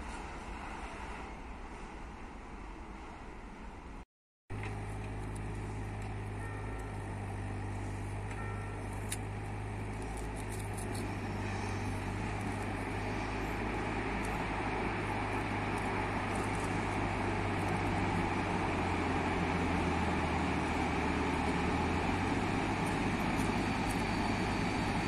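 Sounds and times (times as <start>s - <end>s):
train engine humming: 0.0s - 25.0s.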